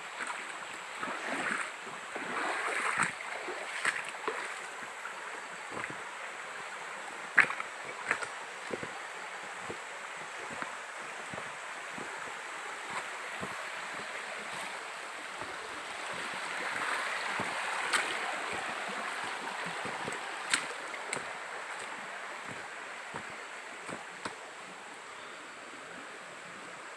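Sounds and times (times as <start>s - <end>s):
flowing water rushing: 0.0s - 26.9s.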